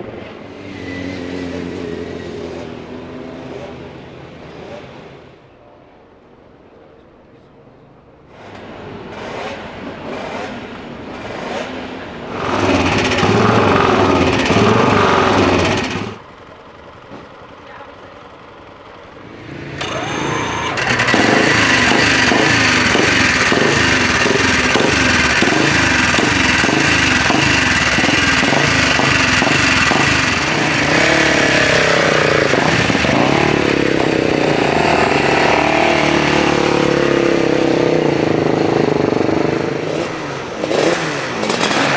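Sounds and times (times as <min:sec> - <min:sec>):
motorcycle engines revving: 0:00.0 - 0:05.5, 0:08.3 - 0:17.0, 0:18.2 - 0:41.9.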